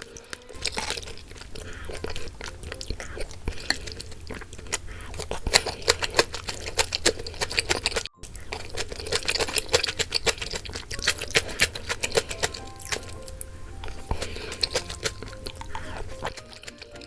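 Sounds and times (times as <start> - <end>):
soft background music: 0.0 - 17.0
utensils clinking against bowls: 0.0 - 17.0.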